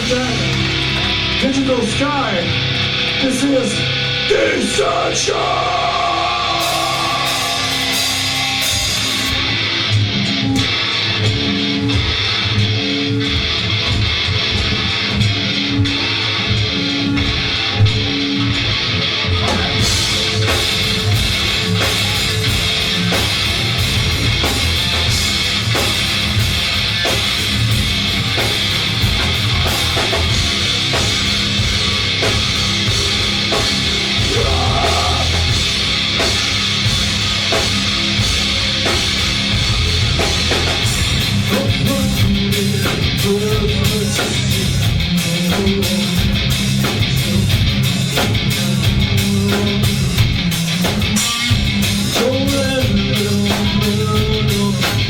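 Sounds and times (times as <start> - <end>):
electric guitar: 0.0 - 55.0
rock band playing live: 0.0 - 55.0
drum kit and cymbals: 5.4 - 18.6, 19.4 - 55.0.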